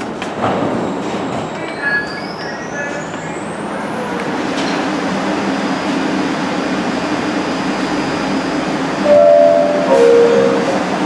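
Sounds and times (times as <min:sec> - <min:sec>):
train equipment humming and hissing: 0:00.0 - 0:11.0.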